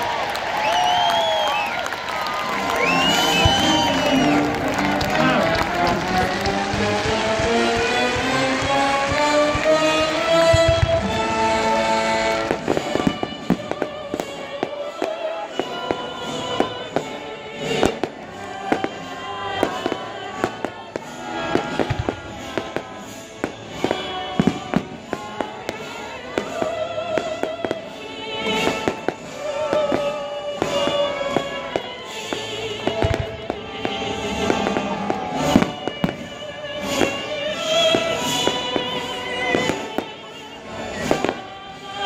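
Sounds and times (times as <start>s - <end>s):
fireworks bursting and crackling: 0.0s - 42.0s
orchestral music: 0.0s - 42.0s.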